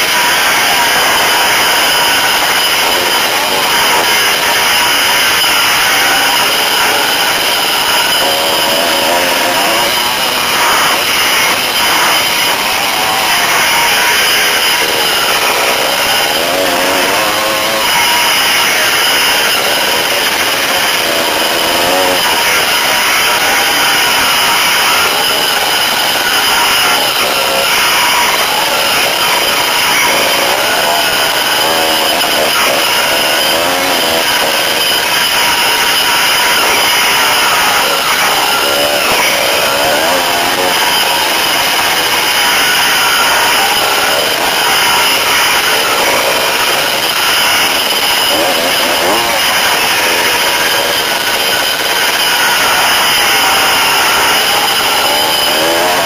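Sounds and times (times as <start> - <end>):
dirt bike engine revving: 0.0 - 56.0
steady noisy rush: 0.0 - 56.0.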